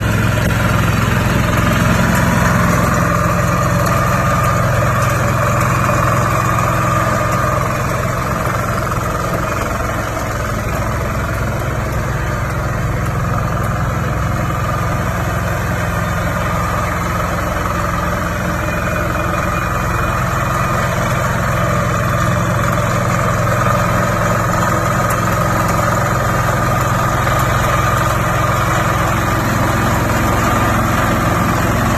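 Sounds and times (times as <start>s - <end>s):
harvester engine running: 0.0s - 31.9s.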